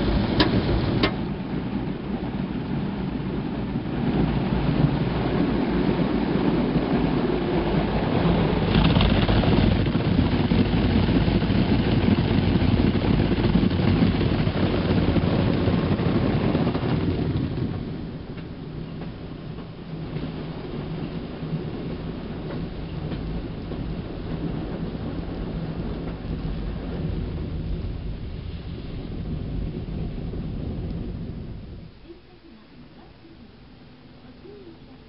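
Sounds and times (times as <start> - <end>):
low machine rumble: 0.0 - 35.0.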